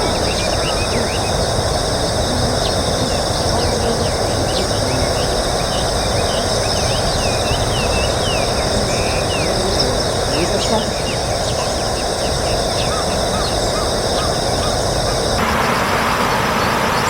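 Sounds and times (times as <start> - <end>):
high insect drone: 0.0 - 17.0
small birds chirping: 0.0 - 17.0.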